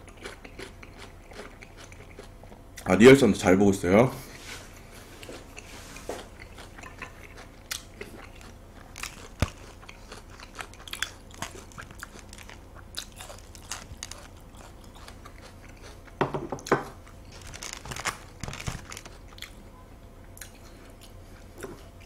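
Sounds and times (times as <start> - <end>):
wet chewing sounds: 0.0 - 2.9, 4.7 - 22.0.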